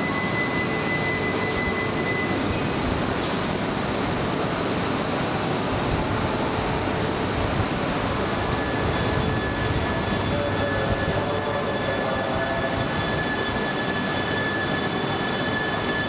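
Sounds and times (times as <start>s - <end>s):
thin steady whine: 0.0s - 4.6s, 6.4s - 16.0s
train equipment humming: 0.0s - 16.0s
train pulling away tone: 0.0s - 16.0s.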